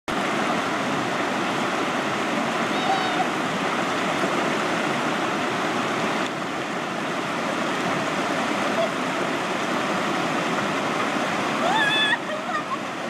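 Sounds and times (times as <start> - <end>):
stream water flowing: 0.1 - 13.0.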